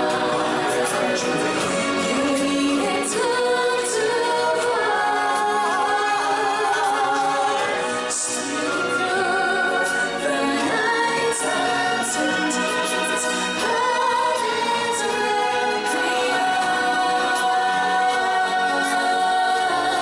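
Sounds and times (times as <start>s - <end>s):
choir singing long held notes: 0.0s - 20.0s.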